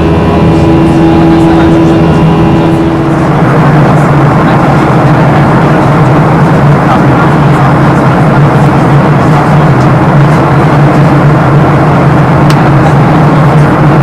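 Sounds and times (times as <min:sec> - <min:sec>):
airplane cabin engine rush: 0:00.0 - 0:14.0
low hum: 0:00.0 - 0:14.0.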